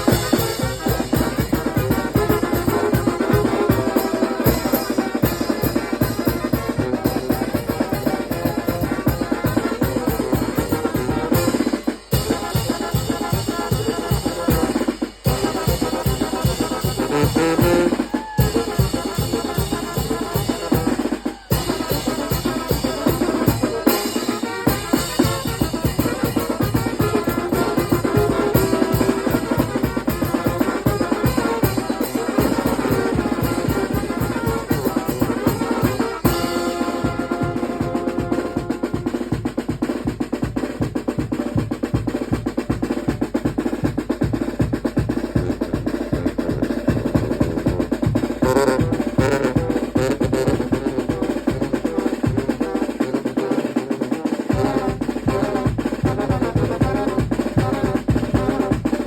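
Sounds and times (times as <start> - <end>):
snare and bass drum beat: 0.0 - 59.0
wind band playing carnival music: 0.0 - 59.0.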